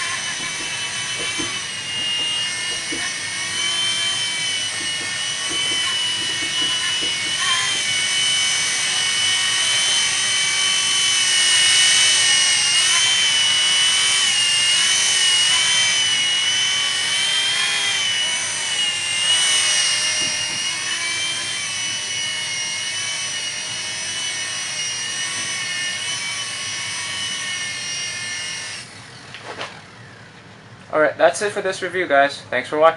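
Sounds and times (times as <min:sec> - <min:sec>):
rc helicopter whine: 0:00.0 - 0:30.3.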